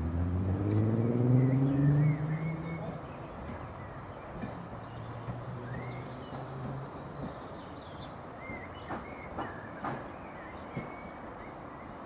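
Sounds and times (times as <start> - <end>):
birds chirping: 1.2 - 12.0.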